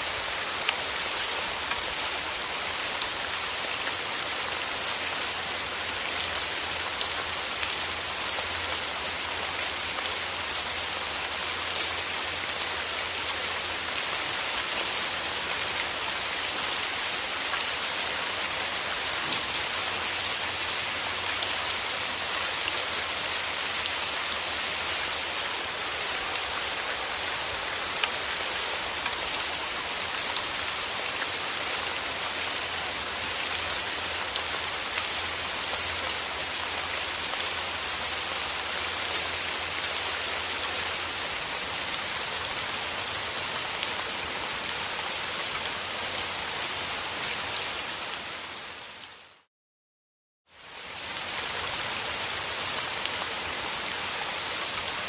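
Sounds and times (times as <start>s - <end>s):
steady rain: 0.0s - 49.5s, 50.5s - 55.0s.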